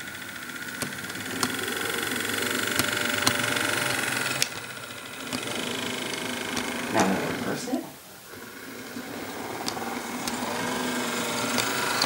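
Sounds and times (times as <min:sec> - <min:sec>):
wheels clicking over track joints: 0:00.0 - 0:07.6, 0:08.3 - 0:12.0
model train motor whining: 0:00.0 - 0:12.0.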